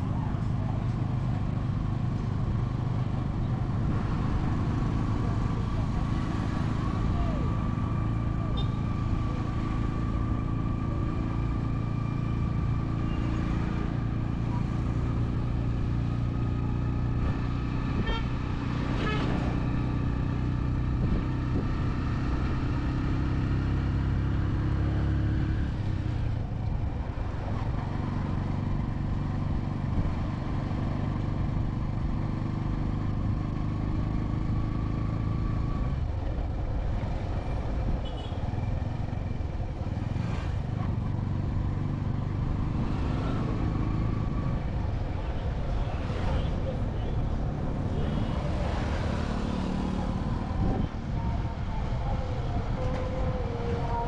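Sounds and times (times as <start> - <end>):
vehicle engines running: 0.0 - 54.0.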